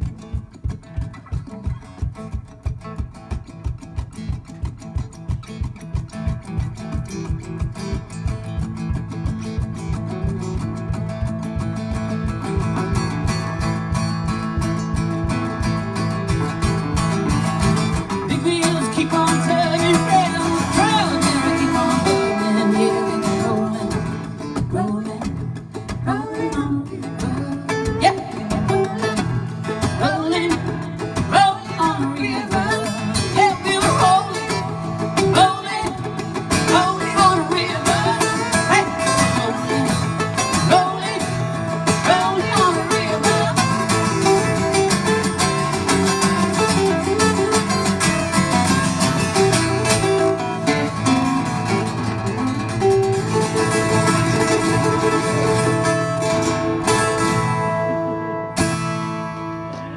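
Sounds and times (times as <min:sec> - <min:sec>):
two guitars strummed and picked: 0:00.0 - 0:59.9.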